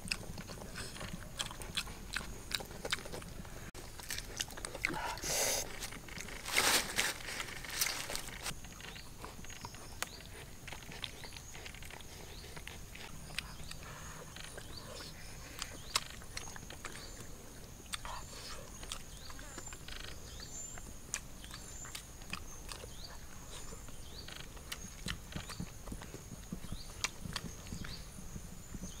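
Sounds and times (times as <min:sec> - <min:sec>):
puppy chewing and crunching: 0:00.0 - 0:29.0.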